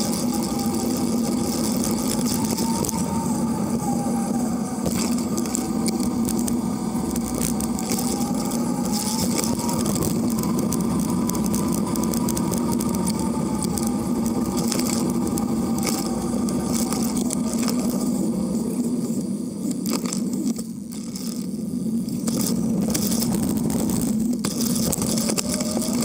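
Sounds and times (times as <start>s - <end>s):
small clicks and rattles: 0.0s - 3.1s, 4.8s - 18.2s, 19.6s - 26.0s
bicycle tyre rolling on asphalt: 0.0s - 26.0s.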